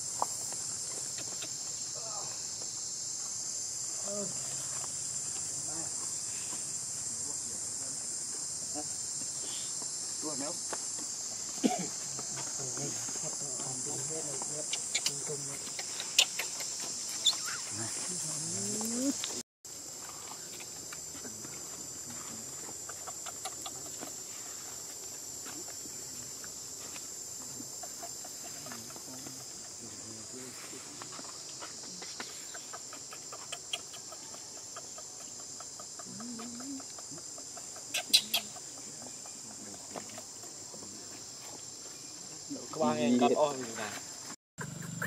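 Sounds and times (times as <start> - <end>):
insect chorus drone: 0.0 - 45.0.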